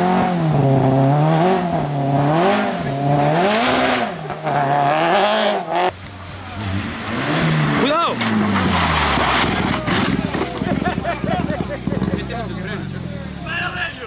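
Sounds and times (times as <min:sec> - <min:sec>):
car engine revving: 0:00.0 - 0:13.7.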